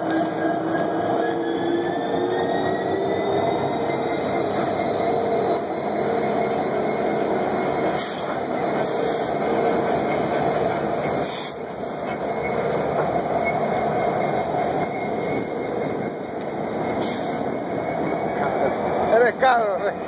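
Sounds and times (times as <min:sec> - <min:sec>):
freight train rolling on rails: 0:00.0 - 0:20.0
high wheel squeal: 0:00.0 - 0:20.0.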